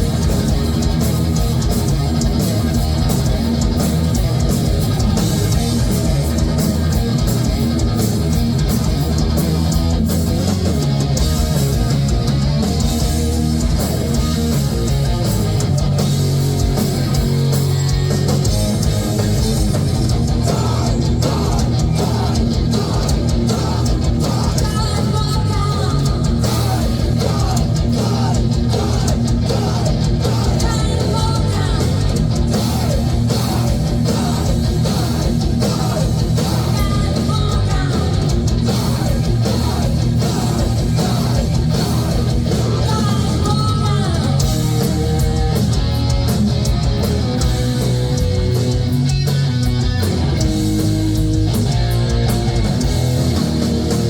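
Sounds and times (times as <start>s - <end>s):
distorted electric guitars: 0.0s - 54.0s
fast drum kit: 0.0s - 54.0s.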